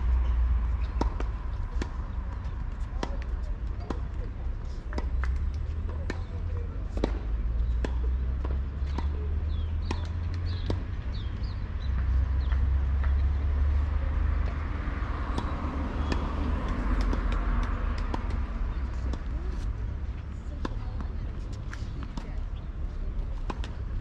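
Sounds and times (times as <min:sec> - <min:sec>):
tennis balls struck and bouncing: 0:00.0 - 0:24.0.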